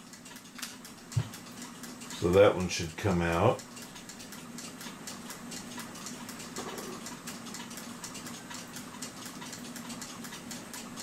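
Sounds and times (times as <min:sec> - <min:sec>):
fast even ticking: 0:00.0 - 0:11.0.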